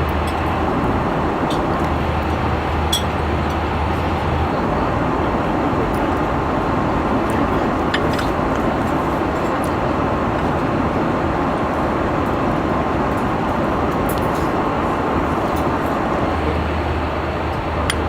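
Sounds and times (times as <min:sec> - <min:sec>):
airliner cabin air and engines: 0:00.0 - 0:18.0.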